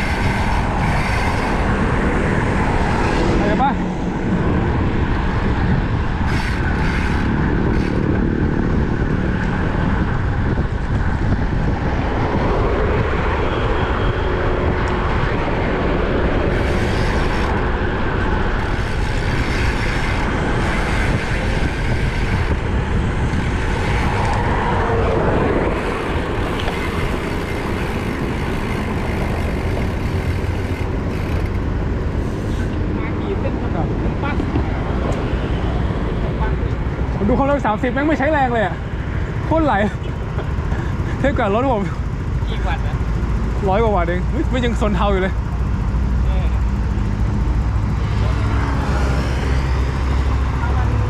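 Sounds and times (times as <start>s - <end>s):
road traffic passing: 0.0s - 51.0s
wind rushing over microphone: 0.0s - 51.0s.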